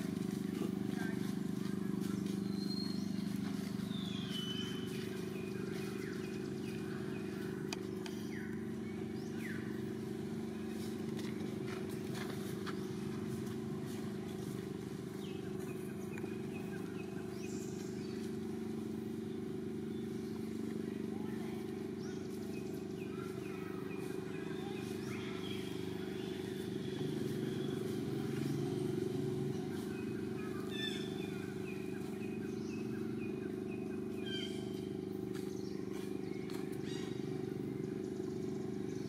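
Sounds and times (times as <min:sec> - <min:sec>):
motor engine hum: 0:00.0 - 0:39.0.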